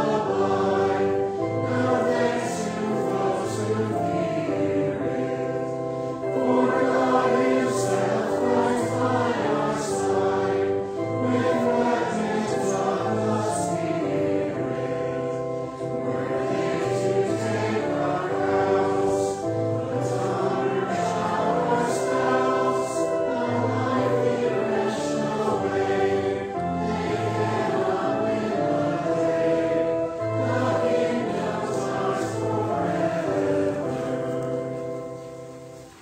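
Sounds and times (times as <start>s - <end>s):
congregation singing a hymn: 0.0s - 36.0s
instrumental accompaniment: 0.0s - 36.0s.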